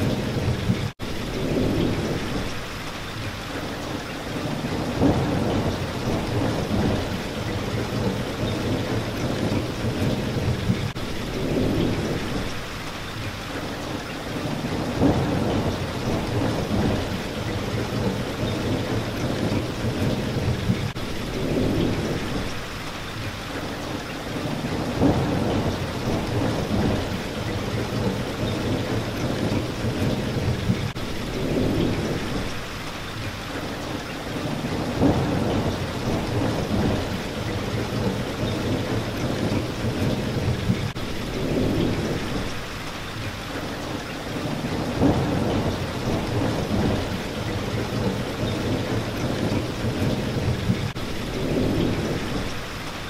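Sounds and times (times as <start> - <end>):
rolling thunder: 0.0 - 2.7, 4.4 - 12.7, 14.3 - 22.6, 24.4 - 32.8, 34.3 - 42.6, 44.3 - 52.8
steady rain: 0.0 - 53.0.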